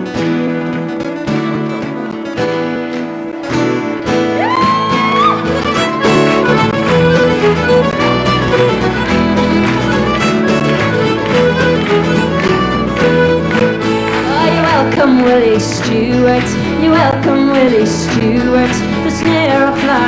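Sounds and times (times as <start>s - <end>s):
bass: 0.0s - 20.0s
strummed acoustic guitar: 0.0s - 20.0s
fiddle playing folk tune: 0.1s - 20.0s.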